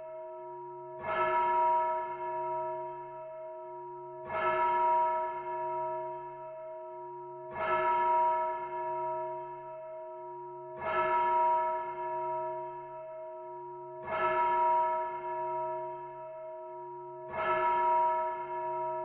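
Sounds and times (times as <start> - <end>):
church bell tolling: 0.0 - 19.0.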